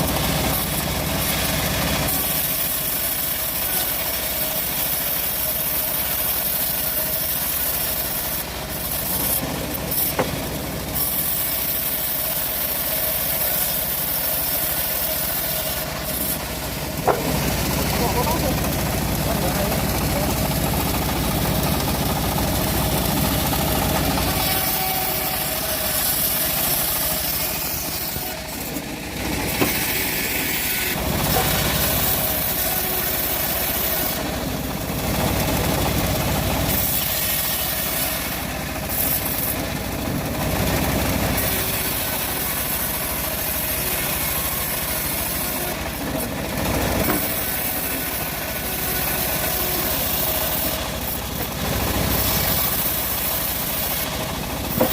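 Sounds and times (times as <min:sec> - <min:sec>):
bandsaw motor hum: 0:00.0 - 0:54.9
saw cutting wood hiss: 0:00.0 - 0:54.9.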